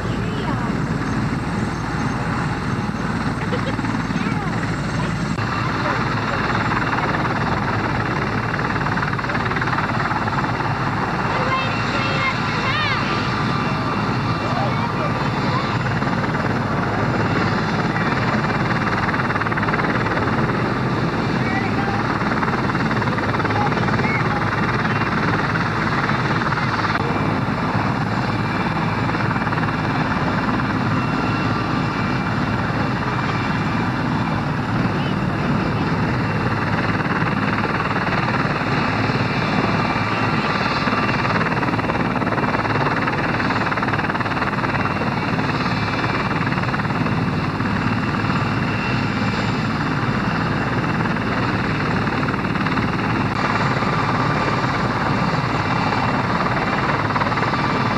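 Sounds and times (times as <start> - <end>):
helicopter rotor and turbine: 0.0 - 57.9.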